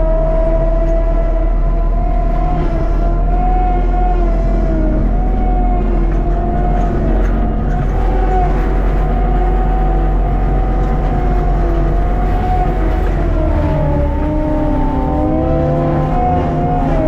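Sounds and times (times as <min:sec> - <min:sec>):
engine rumble: 0:00.0 - 0:17.0
forestry mulcher whining: 0:00.0 - 0:17.0.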